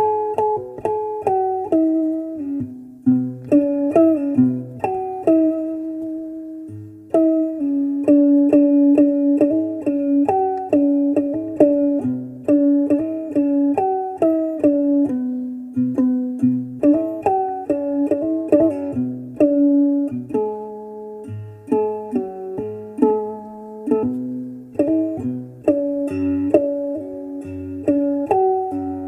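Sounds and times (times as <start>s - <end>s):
plucked string melody: 0.0s - 29.0s.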